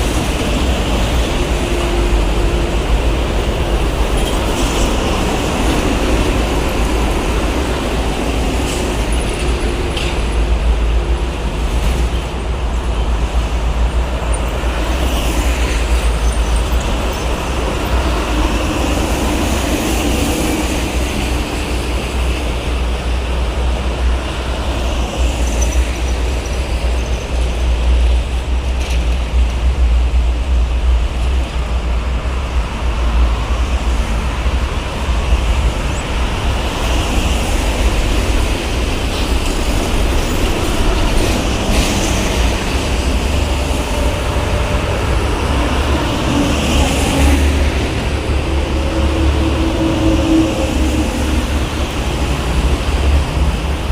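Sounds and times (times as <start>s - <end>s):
heavy road traffic rumble: 0.0s - 53.9s.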